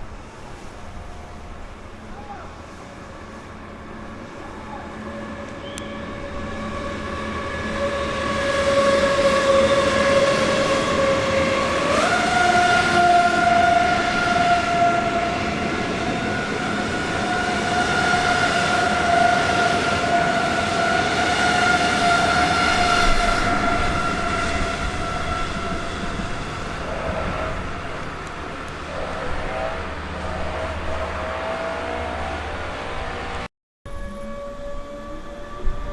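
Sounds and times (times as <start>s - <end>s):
train high whine: 0.0s - 35.9s
train rumble: 0.0s - 35.9s.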